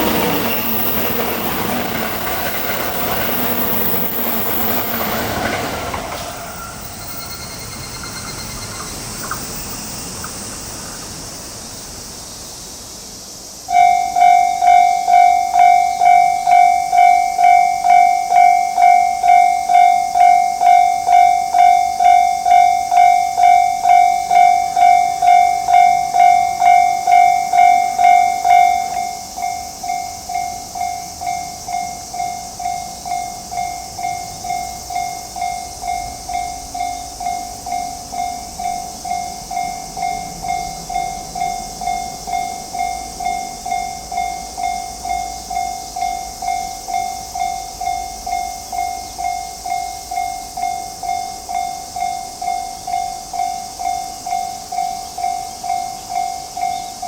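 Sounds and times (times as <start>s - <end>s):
level crossing warning bell dinging: 0.0s - 9.7s, 13.7s - 57.0s.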